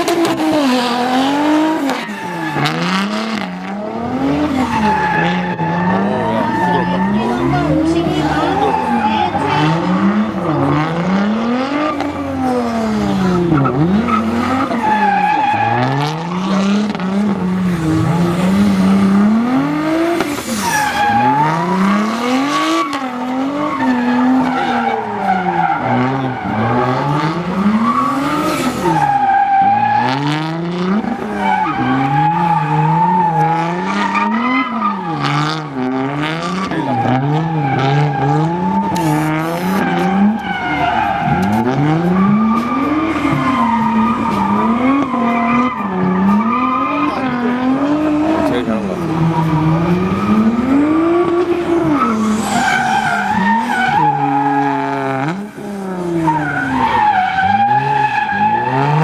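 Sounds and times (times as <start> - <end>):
car engine revving: 0.0 - 59.0
tire squeal: 0.0 - 59.0.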